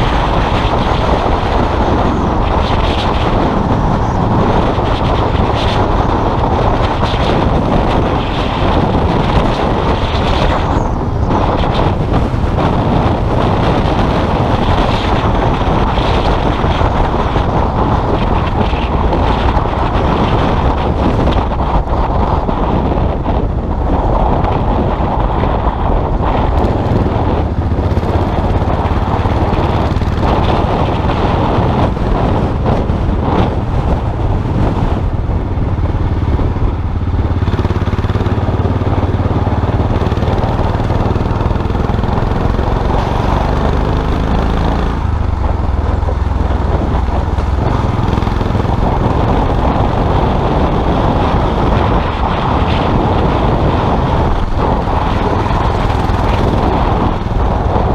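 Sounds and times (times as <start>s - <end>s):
motorcycle engine running: 0.0s - 57.9s
wind on microphone: 0.0s - 57.9s.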